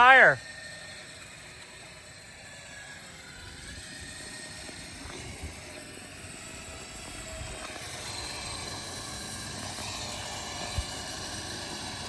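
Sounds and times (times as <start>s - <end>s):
winch running: 0.0s - 12.0s.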